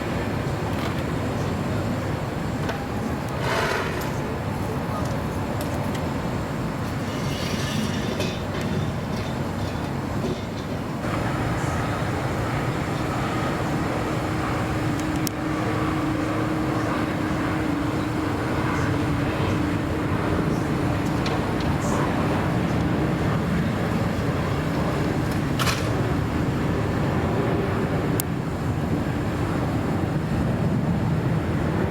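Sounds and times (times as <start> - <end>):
jet engines rumbling: 0.0 - 31.9
steady hum: 0.0 - 31.9.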